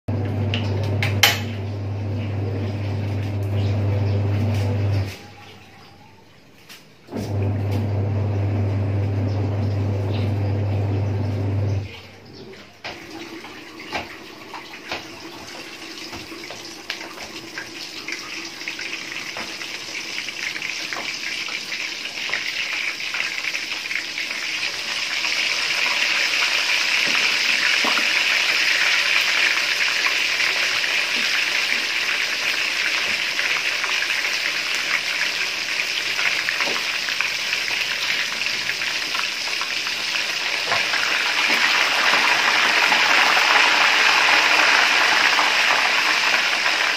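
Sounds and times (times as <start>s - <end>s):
chicken deep-frying in oil: 9.2s - 46.9s.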